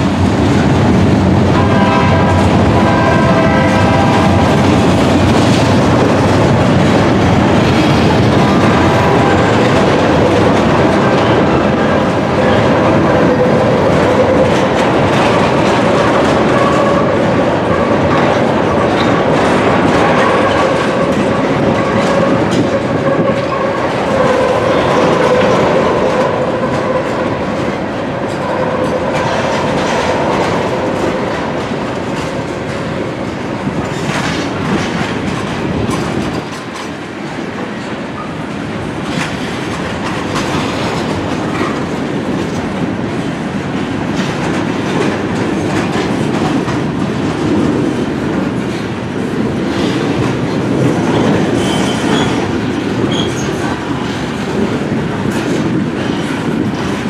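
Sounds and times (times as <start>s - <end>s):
train wheels clattering over rail joints: 0.0s - 57.0s.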